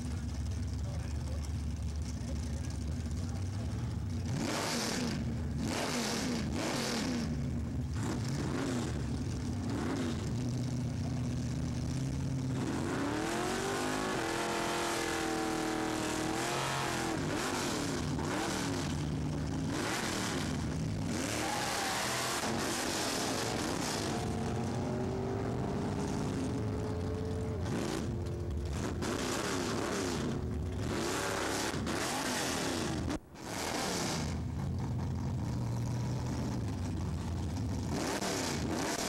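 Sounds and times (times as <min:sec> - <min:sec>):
race car engines revving: 0:00.0 - 0:39.0.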